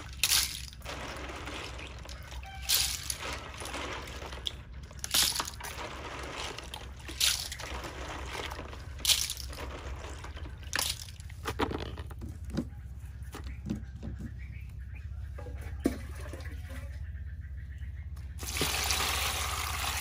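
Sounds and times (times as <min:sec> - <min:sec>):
water sloshing in a basin: 0:00.0 - 0:13.9, 0:15.4 - 0:17.1, 0:18.4 - 0:20.0.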